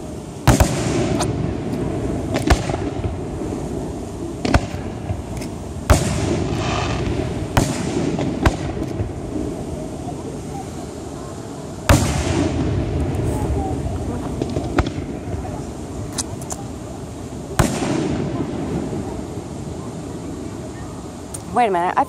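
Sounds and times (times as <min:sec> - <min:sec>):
low rumble of echoing bursts: 0:00.0 - 0:21.3
fireworks bangs: 0:00.0 - 0:22.0.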